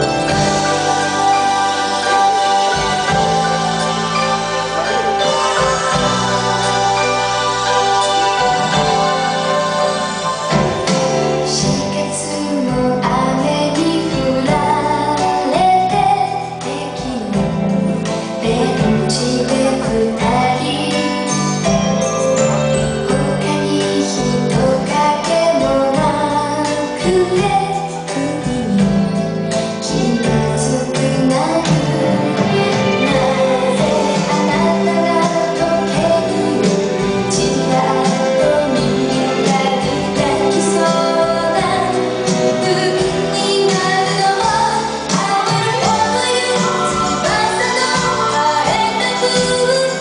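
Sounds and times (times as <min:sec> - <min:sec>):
woman singing into microphone: 0:00.0 - 0:21.9, 0:23.1 - 0:50.0
instrumental backing music: 0:00.0 - 0:50.0.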